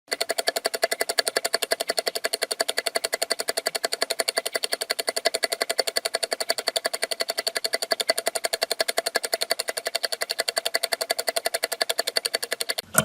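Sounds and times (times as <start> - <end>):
rapid even clicking: 0.1 - 13.0.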